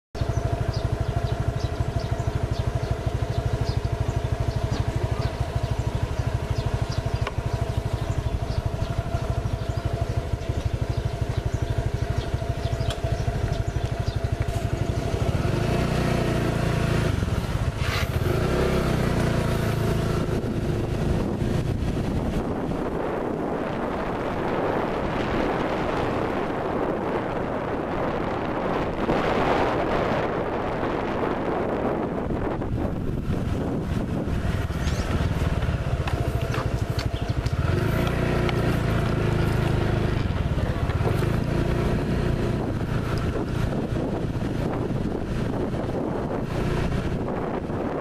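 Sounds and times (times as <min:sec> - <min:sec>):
wind and road noise: 0:00.1 - 0:48.0
small motorcycle engine: 0:00.2 - 0:48.0.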